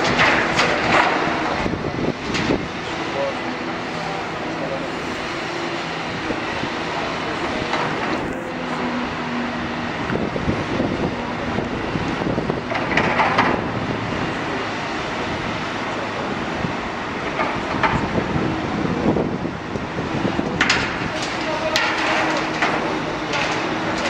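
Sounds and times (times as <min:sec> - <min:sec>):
excavator diesel engine under load: 0:00.0 - 0:24.0
hydraulic work noise: 0:00.0 - 0:24.0.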